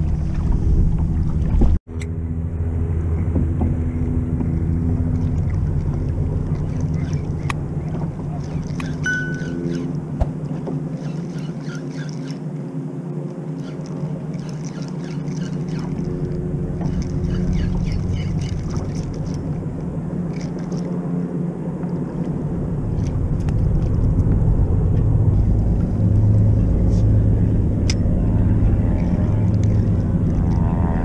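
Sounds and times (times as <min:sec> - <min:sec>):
water splashes: 0:00.0 - 0:01.8, 0:03.4 - 0:31.0
boat engine droning: 0:00.0 - 0:31.0.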